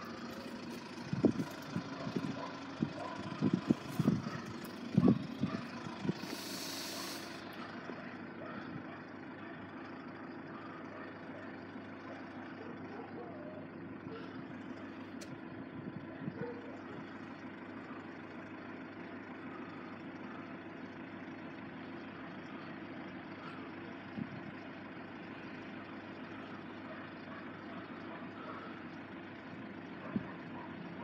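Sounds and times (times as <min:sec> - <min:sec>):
distant engine idling: 0:00.0 - 0:31.0.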